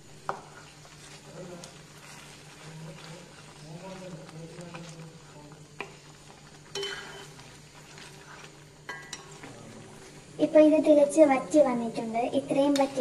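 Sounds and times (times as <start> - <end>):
low steady hum: 0.0 - 13.0
spoon stirring sticky mixture: 0.2 - 13.0.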